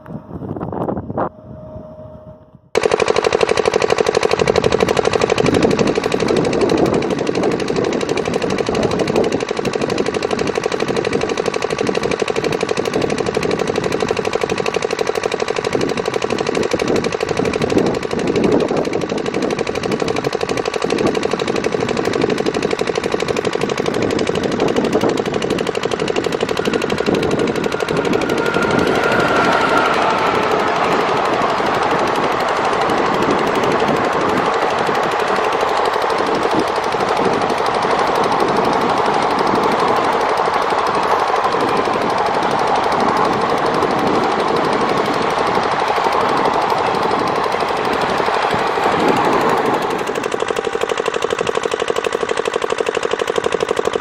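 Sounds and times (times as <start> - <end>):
steady train hum: 0.0 - 54.0
train wheels clattering on track: 2.8 - 54.0.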